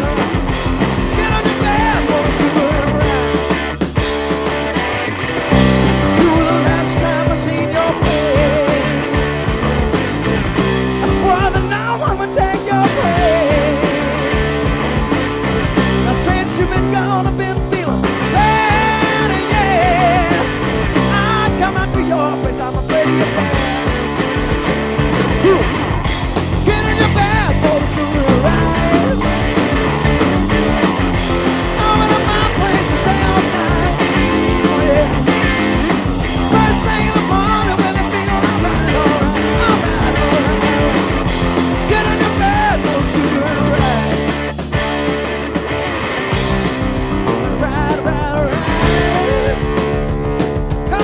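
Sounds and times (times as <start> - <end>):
hard rock band playing live: 0.0 - 51.0.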